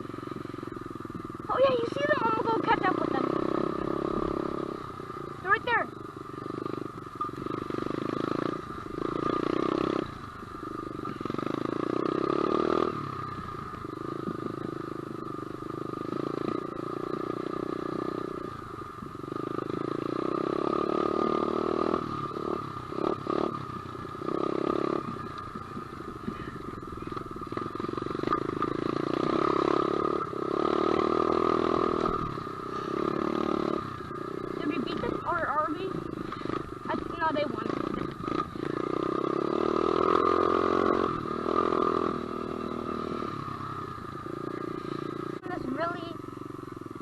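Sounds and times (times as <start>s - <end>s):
motorbike engine revving: 0.0s - 47.0s.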